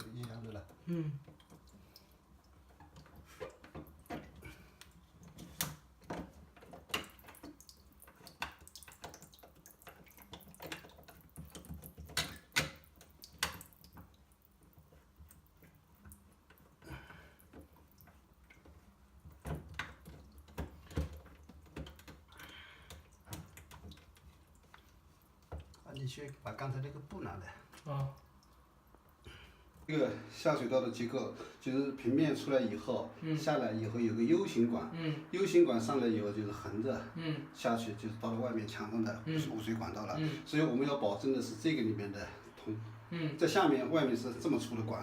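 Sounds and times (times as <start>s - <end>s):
water splashing: 0.0s - 45.0s.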